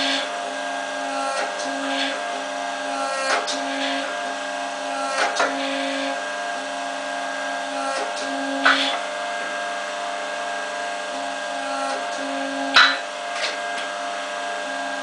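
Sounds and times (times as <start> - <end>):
furnace machine hum: 0.0 - 15.0.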